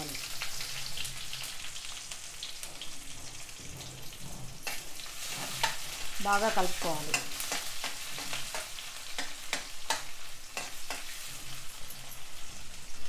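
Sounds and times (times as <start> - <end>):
onions sizzling in hot oil: 0.0 - 13.0
metal spatula scraping pan: 0.3 - 12.7.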